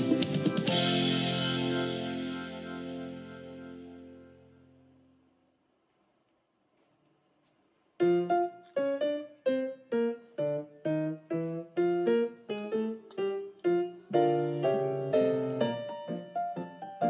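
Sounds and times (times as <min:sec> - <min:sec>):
piano music: 0:00.0 - 0:05.1, 0:08.0 - 0:17.0.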